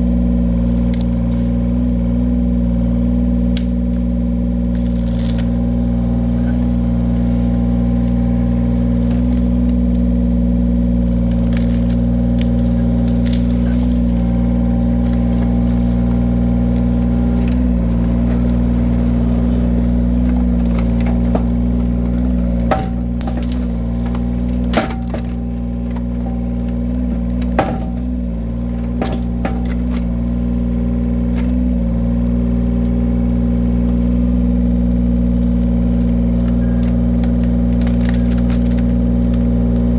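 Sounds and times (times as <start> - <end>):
wood cracking and splitting: 0.0 - 39.9
wood splitter engine running: 0.0 - 39.9.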